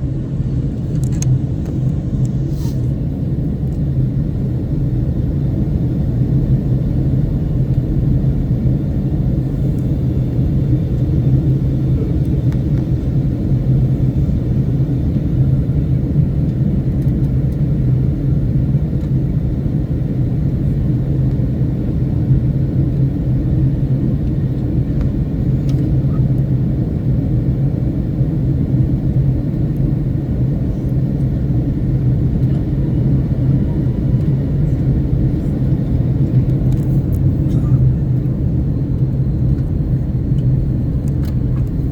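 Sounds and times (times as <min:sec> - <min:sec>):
airliner engine rumble: 0:00.0 - 0:41.9.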